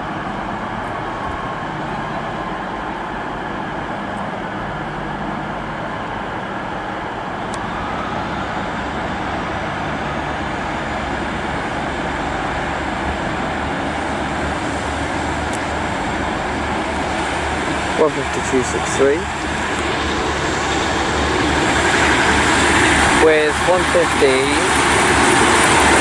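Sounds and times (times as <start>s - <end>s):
diesel train engines running: 0.0s - 26.0s.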